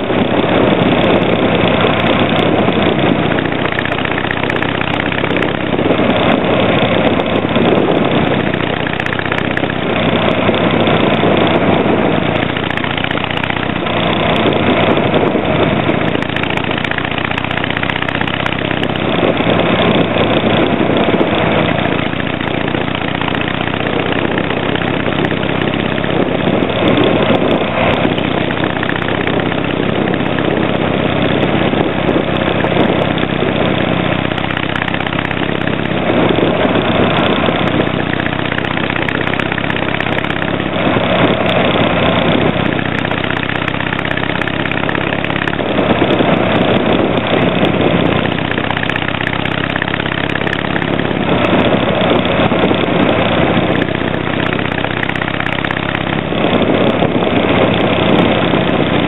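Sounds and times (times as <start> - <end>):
motorcycle exhaust at road speed: 0.0 - 59.0.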